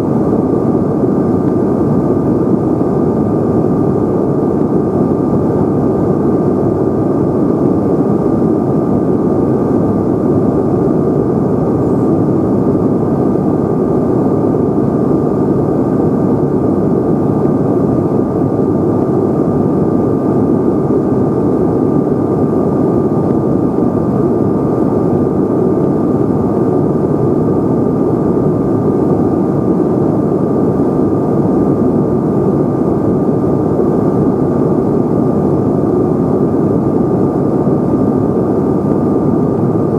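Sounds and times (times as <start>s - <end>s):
jet engine cabin drone: 0.0s - 39.9s
thin steady whine: 0.0s - 39.9s.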